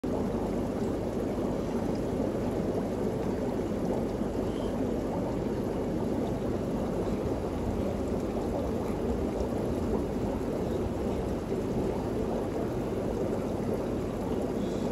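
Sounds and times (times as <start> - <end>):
fish tank water rushing: 0.0 - 14.9.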